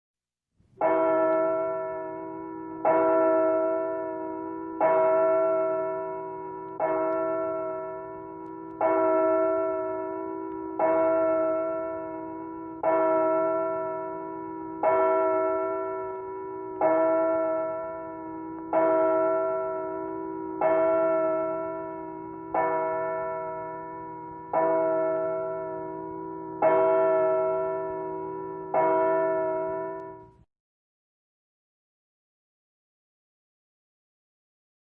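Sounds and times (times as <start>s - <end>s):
church bell tolling: 0.8s - 30.4s.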